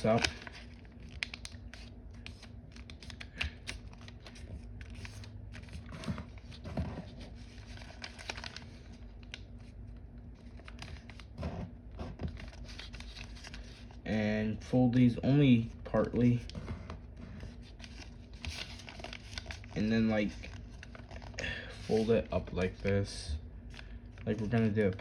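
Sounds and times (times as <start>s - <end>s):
foil paper crinkling: 0.0s - 14.1s, 15.5s - 25.0s.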